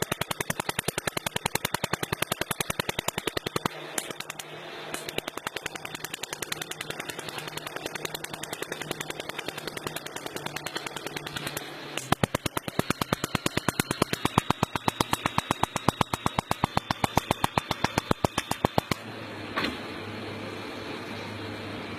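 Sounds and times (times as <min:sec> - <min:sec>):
welding ticking pulse: 0:00.0 - 0:19.0
steady hum: 0:00.0 - 0:21.9.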